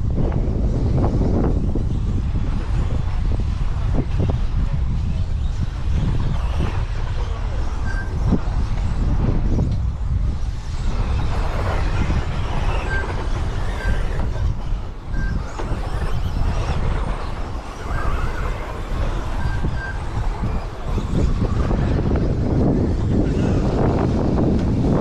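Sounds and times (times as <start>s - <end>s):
rc race track noise: 0.0s - 25.0s
wind buffeting microphone: 0.0s - 25.0s.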